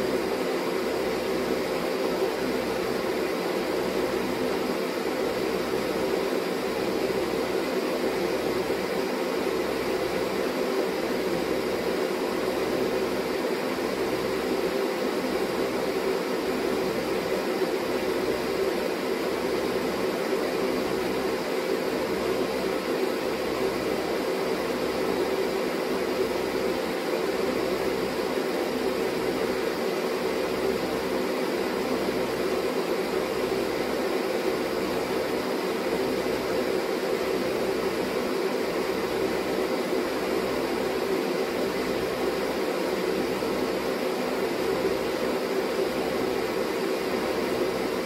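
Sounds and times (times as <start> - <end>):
mechanical whir and hum: 0.0 - 48.0.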